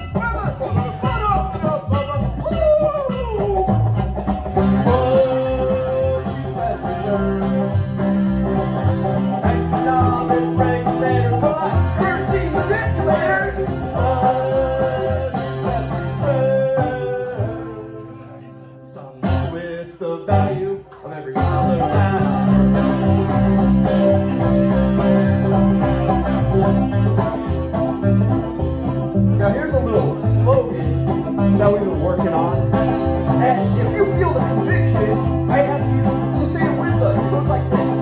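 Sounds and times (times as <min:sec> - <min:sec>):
banjo picking: 0:00.0 - 0:38.0
plucked double bass: 0:00.0 - 0:38.0.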